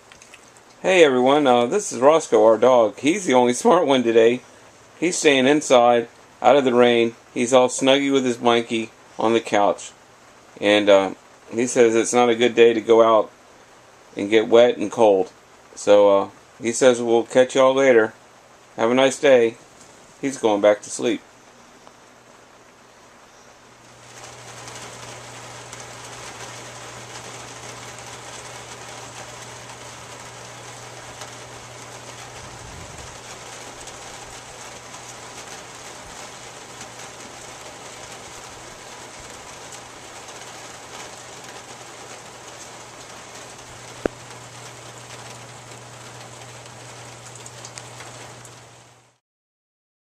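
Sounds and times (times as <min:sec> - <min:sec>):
low steady hum: 0:00.0 - 0:49.2
steady rain falling: 0:00.0 - 0:49.2.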